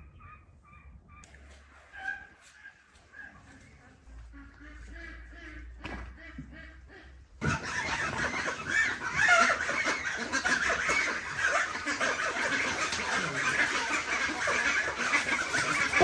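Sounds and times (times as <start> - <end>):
poultry clucking and calling: 0.0 - 16.0.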